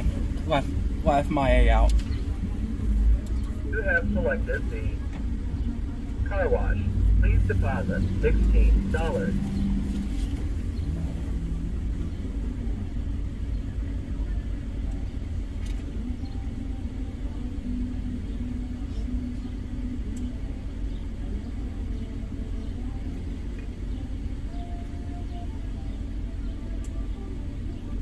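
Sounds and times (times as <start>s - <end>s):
car idling from inside cabin: 0.0s - 28.0s.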